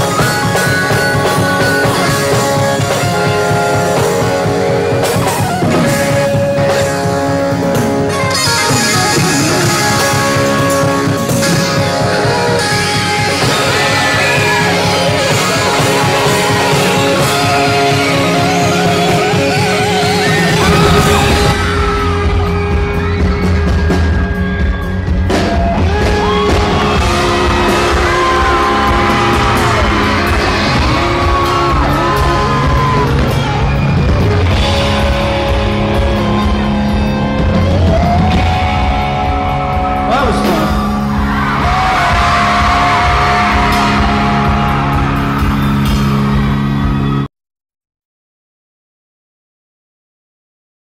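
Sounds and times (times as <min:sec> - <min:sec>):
rock band playing loud: 0:00.0 - 0:47.3.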